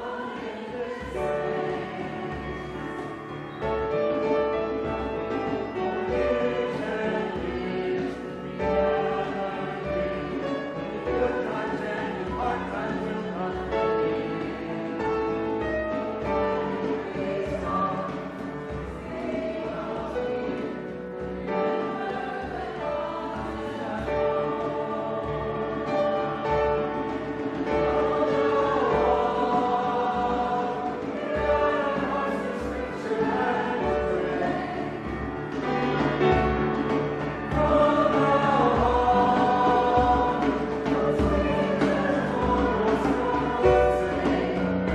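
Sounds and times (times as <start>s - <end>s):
choir singing a hymn: 0.0s - 44.9s.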